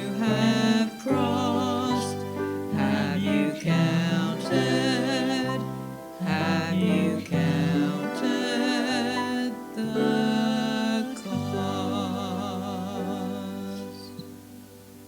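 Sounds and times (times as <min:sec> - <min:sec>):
slow hymn music: 0:00.0 - 0:15.0.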